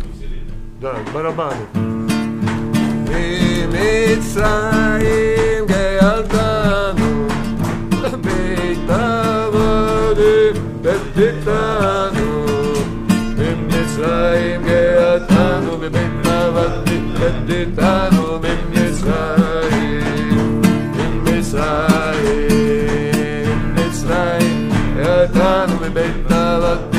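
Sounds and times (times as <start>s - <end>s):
acoustic guitar strumming: 0.0s - 26.9s
men singing together: 3.0s - 26.9s.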